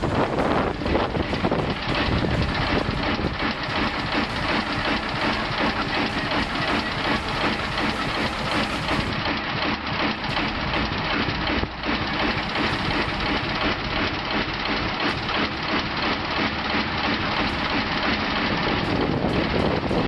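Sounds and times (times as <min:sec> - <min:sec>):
old engine clattering: 0:00.0 - 0:20.0.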